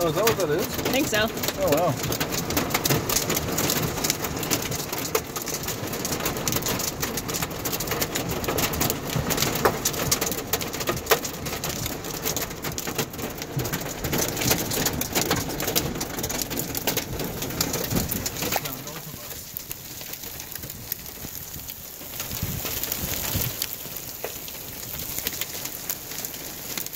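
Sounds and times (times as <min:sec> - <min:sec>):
hailstones clicking on a car: 0:00.0 - 0:26.9
heavy rain on a car: 0:00.0 - 0:26.9.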